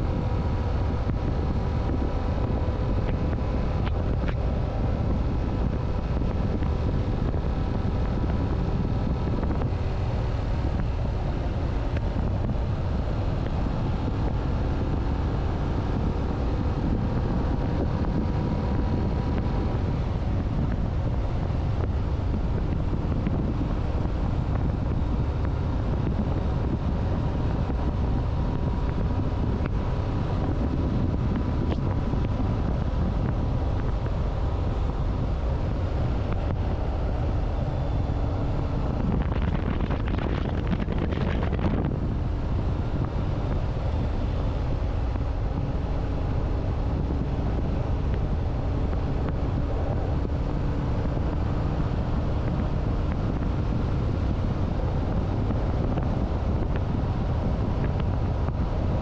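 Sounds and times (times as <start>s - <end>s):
motorcycle engine humming: 0.0s - 59.0s
wind rushing over microphone: 0.0s - 59.0s.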